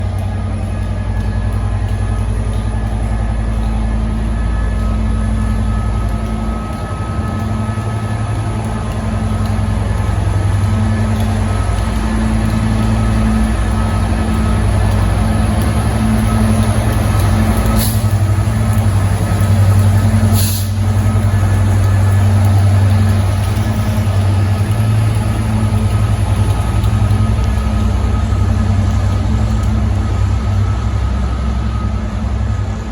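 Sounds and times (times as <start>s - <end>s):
diesel engine low drone: 0.0s - 32.9s.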